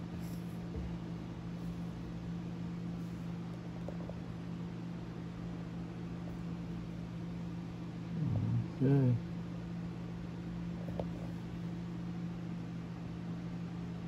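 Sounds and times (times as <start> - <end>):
low room hum with hiss: 0.0 - 14.0.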